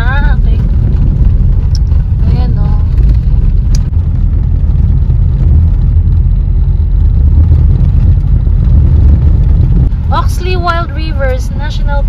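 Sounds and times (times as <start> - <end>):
car driving on gravel: 0.0 - 12.0.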